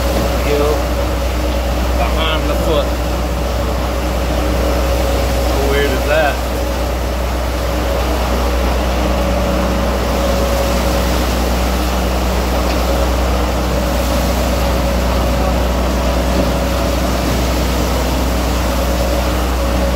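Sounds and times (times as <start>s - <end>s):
deep engine drone: 0.0s - 19.9s
machinery hum: 0.0s - 19.9s.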